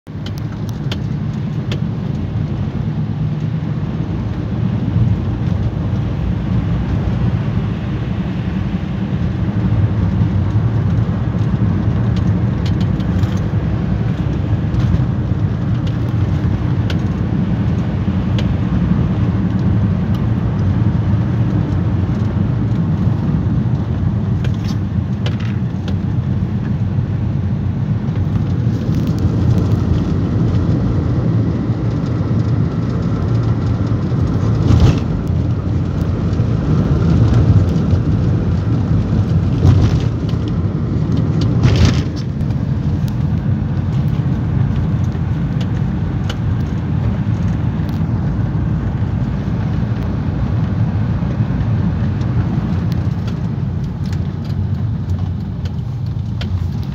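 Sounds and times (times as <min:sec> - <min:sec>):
car road and engine noise: 0:00.0 - 0:56.9.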